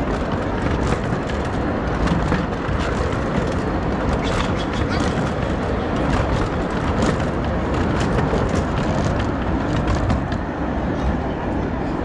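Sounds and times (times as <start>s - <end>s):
rapid clicking and rattling: 0.0s - 10.6s
miniature steam train rumbling: 0.0s - 12.0s.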